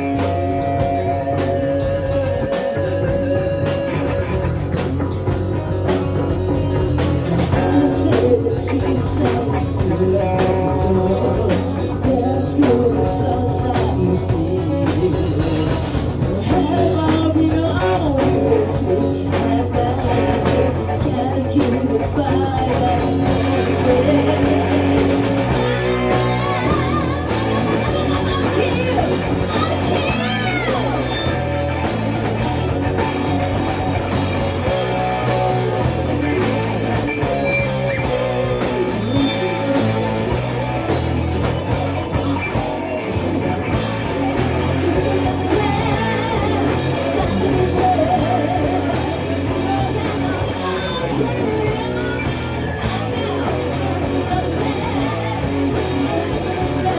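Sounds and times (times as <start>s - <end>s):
drum kit: 0.0s - 56.9s
electric guitar: 0.0s - 56.9s
person singing: 6.2s - 42.6s, 43.9s - 56.9s.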